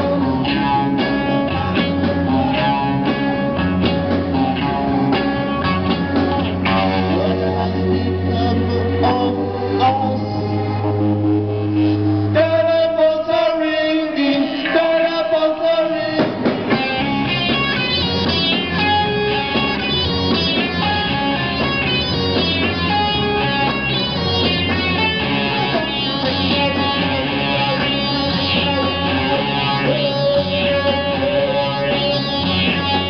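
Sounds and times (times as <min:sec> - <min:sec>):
repeating guitar riff: 0:00.0 - 0:12.9, 0:16.2 - 0:33.0
live rock band playing: 0:00.0 - 0:33.0.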